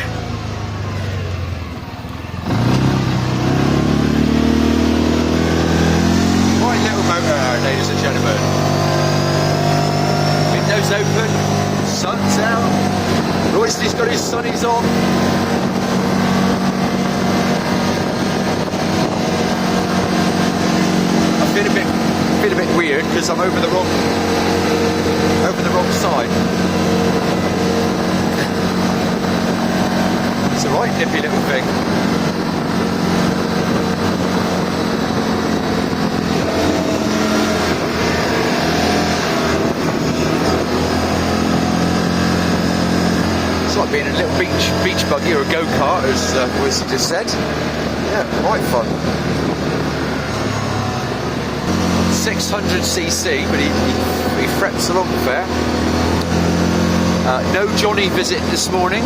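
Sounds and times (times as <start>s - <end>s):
road noise: 0.0s - 59.0s
vehicle engine drone: 0.0s - 59.0s
wind noise: 3.6s - 52.2s.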